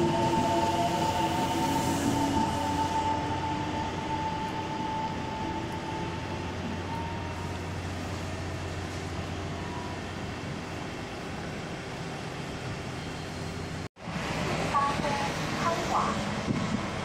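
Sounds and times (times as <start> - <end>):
electric train pulling away: 0.0 - 17.0
train whine: 0.0 - 17.0.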